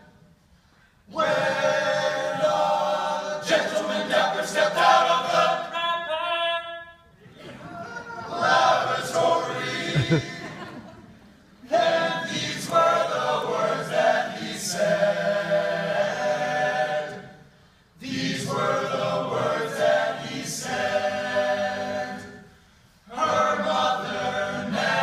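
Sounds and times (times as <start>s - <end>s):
men's a cappella group singing: 1.1s - 6.6s, 8.3s - 10.9s, 11.7s - 25.0s.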